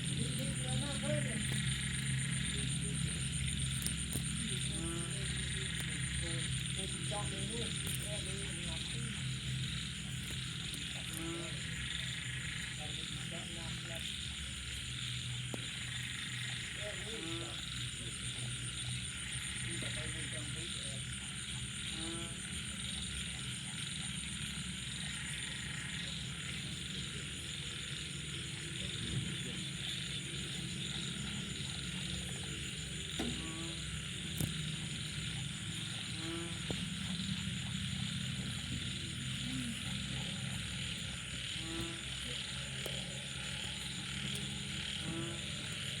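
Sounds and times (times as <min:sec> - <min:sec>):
frogs calling: 0:00.0 - 0:46.0
insects trilling: 0:00.0 - 0:46.0
pulsed frog croak: 0:00.0 - 0:46.0.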